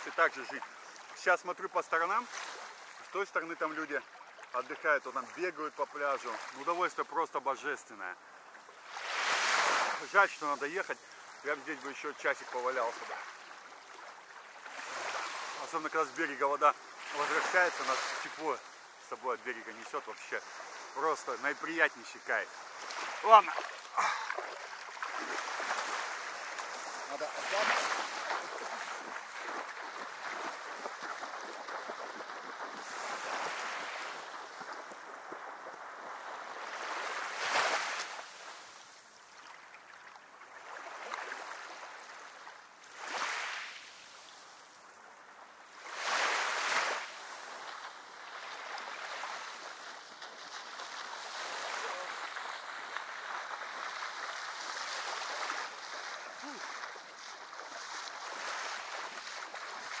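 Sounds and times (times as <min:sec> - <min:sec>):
waves breaking: 0:00.0 - 1:00.0
waves lapping on shore: 0:00.0 - 1:00.0.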